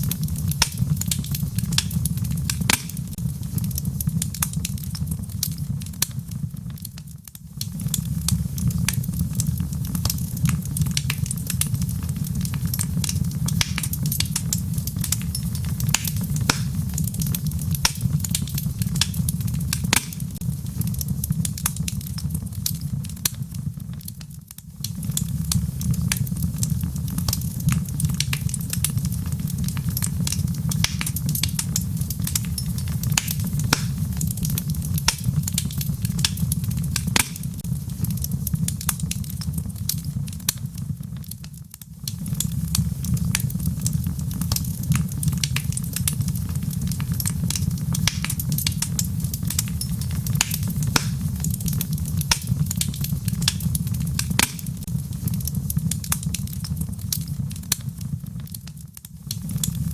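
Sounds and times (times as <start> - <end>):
wood logs crackling in fire: 0.0 - 59.9.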